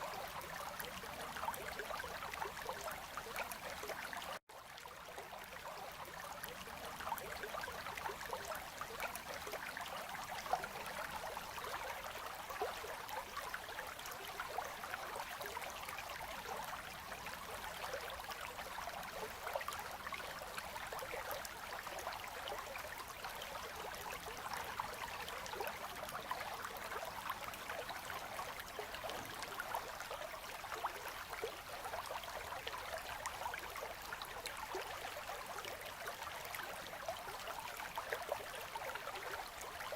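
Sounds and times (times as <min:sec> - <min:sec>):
river flowing over shallows: 0:00.0 - 0:39.9.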